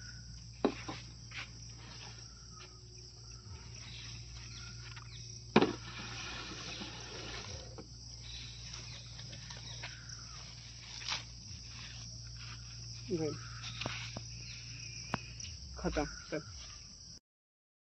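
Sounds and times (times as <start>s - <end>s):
insects chirring: 0.0s - 17.2s.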